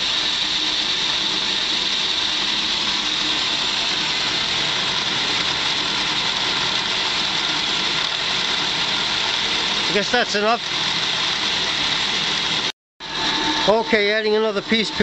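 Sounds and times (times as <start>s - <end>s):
milling cutter cutting metal: 0.0s - 15.0s.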